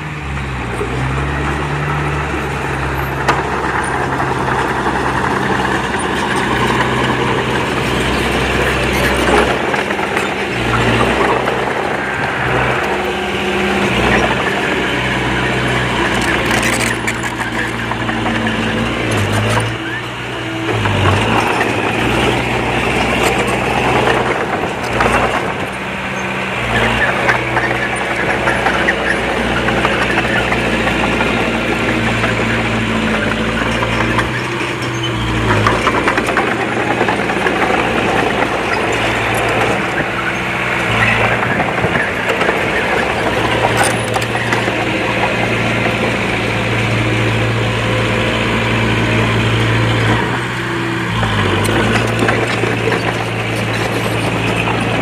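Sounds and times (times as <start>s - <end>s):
bulldozer diesel engine running: 0.0s - 55.0s
steel tracks clattering: 0.0s - 55.0s.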